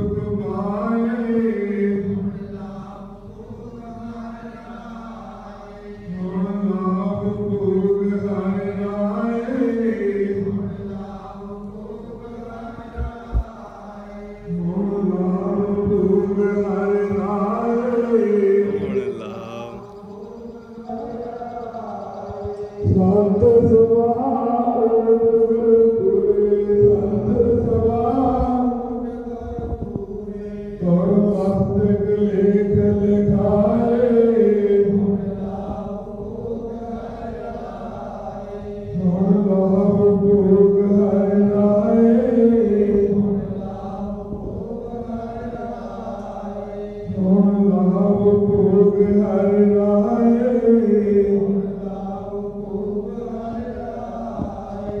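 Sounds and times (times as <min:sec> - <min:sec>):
man chanting into a microphone: 0:00.0 - 0:55.0.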